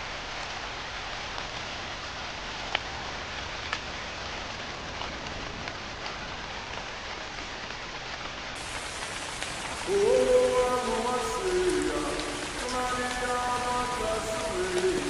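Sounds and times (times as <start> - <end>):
loud nearby raindrops: 0.0 - 15.0
steady rain hiss: 0.0 - 15.0.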